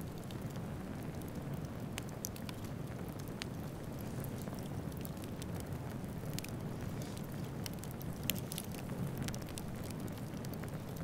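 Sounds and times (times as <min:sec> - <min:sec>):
faint crackles and ticks: 0:00.0 - 0:11.0.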